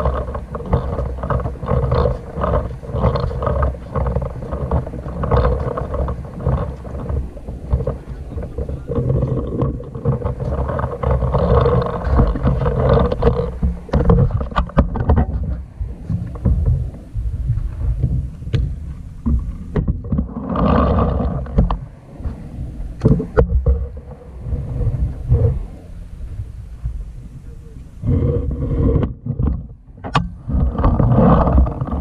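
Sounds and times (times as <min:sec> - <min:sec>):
sharp knocks and clicks: 0:00.0 - 0:22.4, 0:23.0 - 0:25.9, 0:27.8 - 0:32.0
wind buffeting microphone: 0:00.0 - 0:32.0.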